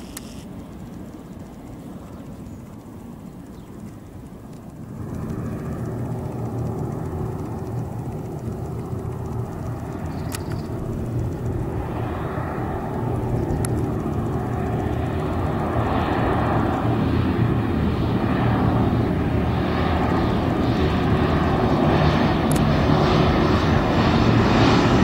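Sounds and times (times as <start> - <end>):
landing aircraft engines rumbling: 0.0 - 25.0.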